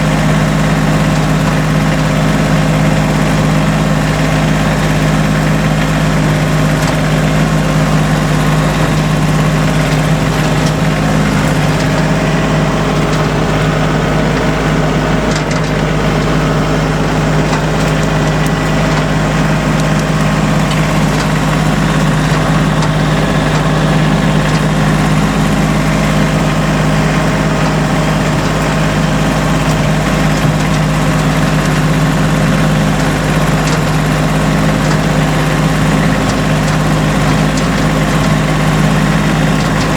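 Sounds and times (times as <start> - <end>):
engine low drone: 0.0 - 39.9.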